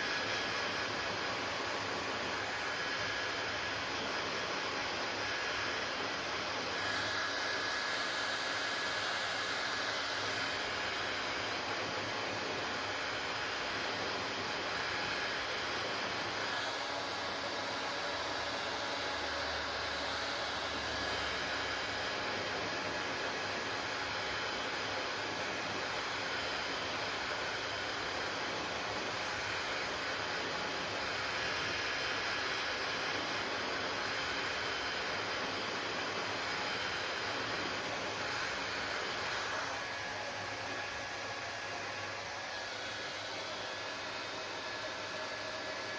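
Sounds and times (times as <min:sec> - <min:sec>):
hair dryer running: 0:00.0 - 0:45.9.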